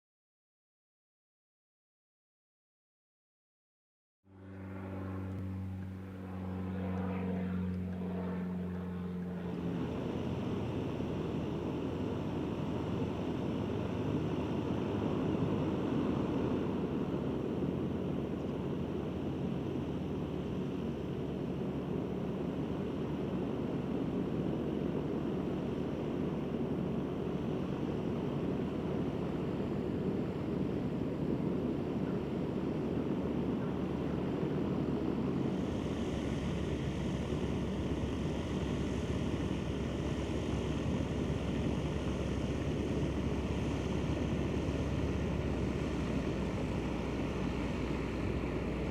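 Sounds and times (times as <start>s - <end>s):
propeller plane droning: 4.3s - 48.9s.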